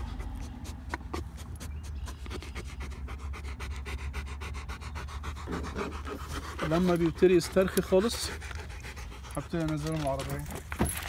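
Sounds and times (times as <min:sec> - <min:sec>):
dog panting rapidly: 0:00.0 - 0:10.3.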